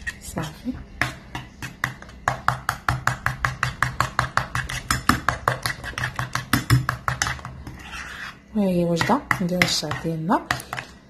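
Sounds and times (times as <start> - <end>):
spoon stirring thick paste: 0.0 - 11.0.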